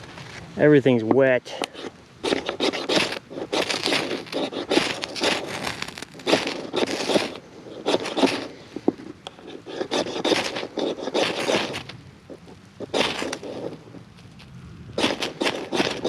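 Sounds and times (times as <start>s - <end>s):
ferro rod scraped with striker: 1.5s - 14.0s, 15.0s - 16.0s.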